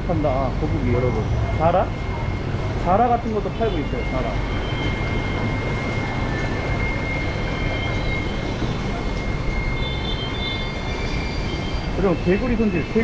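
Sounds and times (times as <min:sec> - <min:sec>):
thin high whine: 0:00.0 - 0:13.0
water churning in tanks: 0:01.8 - 0:13.0.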